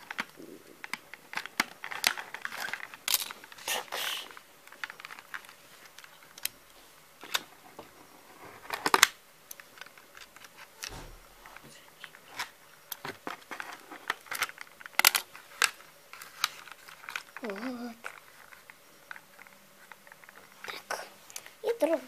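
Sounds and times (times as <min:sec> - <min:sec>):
plastic packaging clicks and crinkles: 0:00.0 - 0:22.0.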